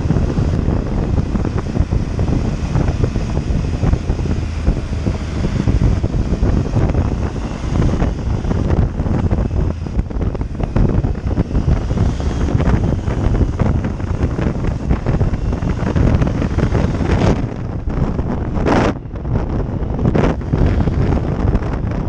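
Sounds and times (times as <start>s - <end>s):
motorcycle engine running: 0.0s - 22.0s
road noise: 0.0s - 22.0s
wind buffeting microphone: 0.0s - 22.0s.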